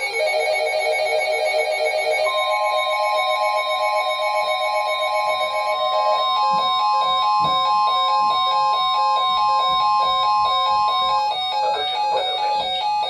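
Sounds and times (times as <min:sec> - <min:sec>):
loud steady alarm tone: 0:00.0 - 0:13.0.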